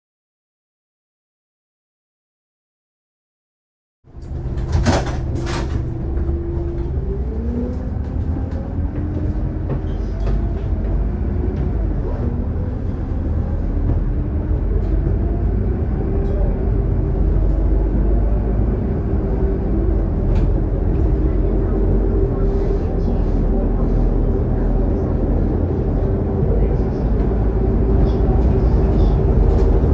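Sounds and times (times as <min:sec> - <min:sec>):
bus engine rumble with whine: 0:04.1 - 0:29.9.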